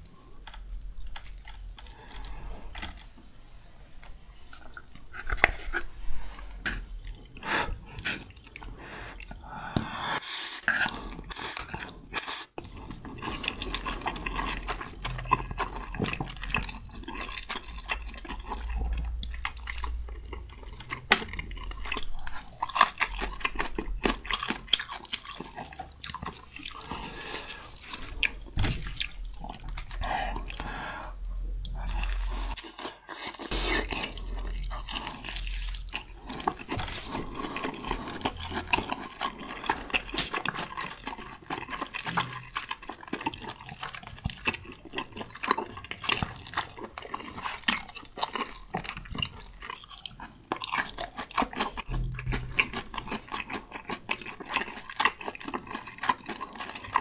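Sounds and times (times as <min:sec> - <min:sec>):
chewing and slurping noodles: 0:10.2 - 0:57.0.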